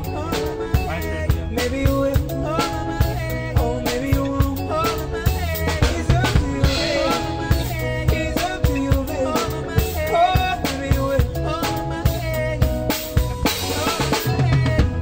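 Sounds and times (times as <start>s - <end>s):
drum kit beat: 0.0s - 15.0s
electric bass line: 0.0s - 15.0s
guitar melody: 0.0s - 15.0s
keyboard melody: 0.0s - 15.0s.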